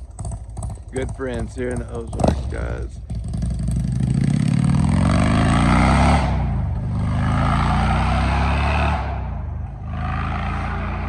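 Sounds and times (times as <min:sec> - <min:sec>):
vehicle engine accelerating: 0:00.0 - 0:11.0.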